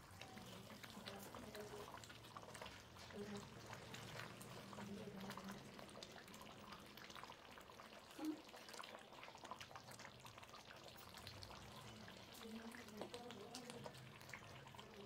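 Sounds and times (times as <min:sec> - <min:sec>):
metal ladle stirring gravy: 0:00.0 - 0:15.0
thick gravy simmering and bubbling: 0:00.0 - 0:15.0.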